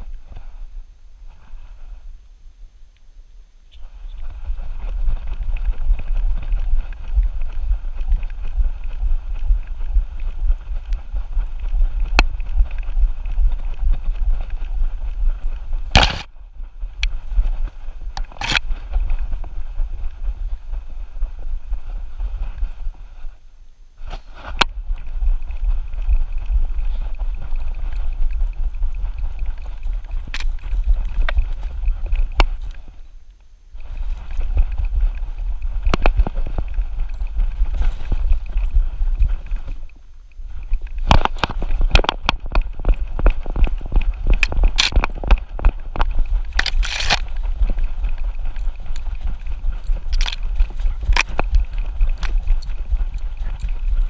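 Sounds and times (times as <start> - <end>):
camera rubbing rumble: 0.0 - 2.2, 3.7 - 54.0.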